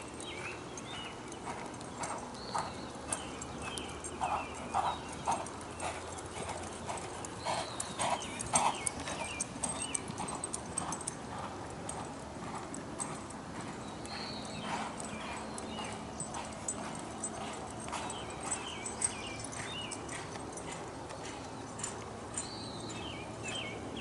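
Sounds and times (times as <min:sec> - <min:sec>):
horse hoofbeats on dirt: 0:00.0 - 0:24.0.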